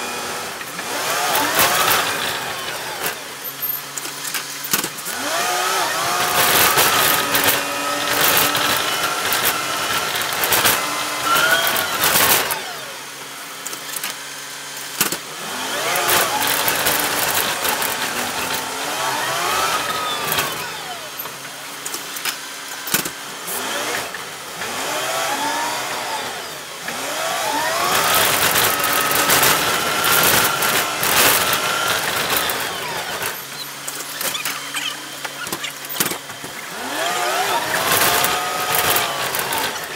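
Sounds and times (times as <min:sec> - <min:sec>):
bus drivetrain whine: 0:00.0 - 0:39.9.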